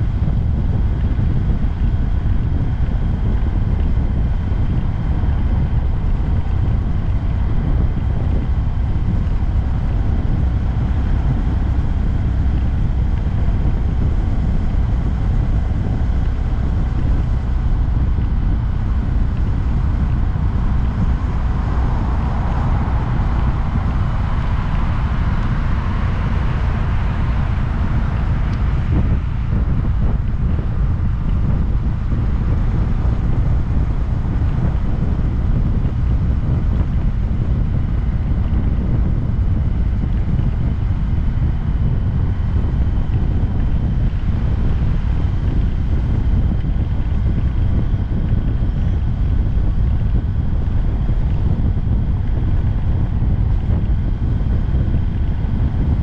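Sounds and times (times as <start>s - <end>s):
mid-pitched hum: 0.0s - 56.0s
motorcycle engine running: 0.0s - 56.0s
wind buffeting microphone: 0.0s - 56.0s.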